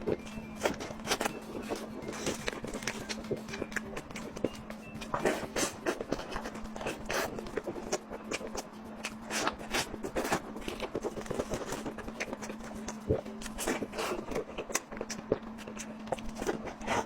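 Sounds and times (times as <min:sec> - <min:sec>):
chewing mouth noises: 0:00.0 - 0:17.0
faint steady hum: 0:00.0 - 0:17.0.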